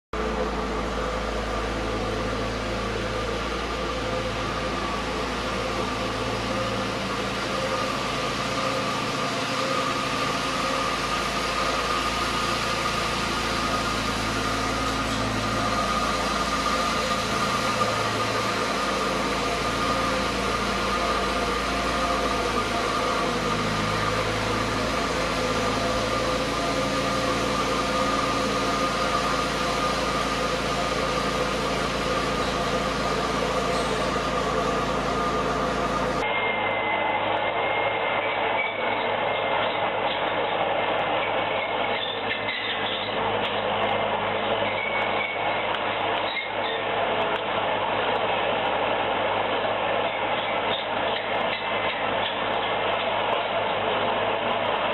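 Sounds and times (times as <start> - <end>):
tree-cutting machine engine whine: 0.2 - 54.9.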